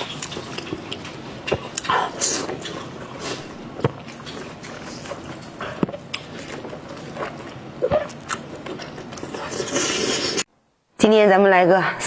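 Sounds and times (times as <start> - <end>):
wet chewing and slurping: 0.0 - 10.5.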